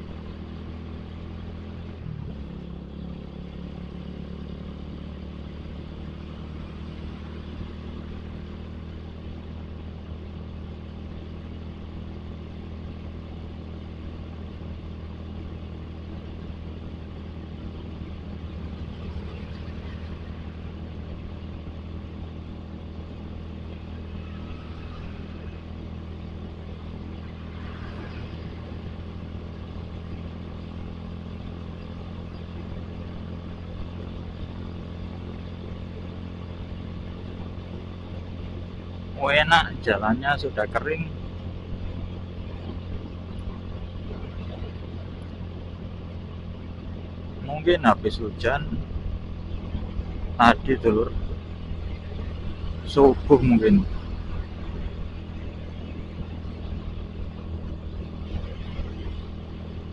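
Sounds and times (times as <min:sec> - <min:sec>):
motorcycle engine running: 0:00.0 - 0:59.9
road and traffic noise: 0:00.0 - 0:59.9
vehicles passing: 0:00.0 - 0:59.9.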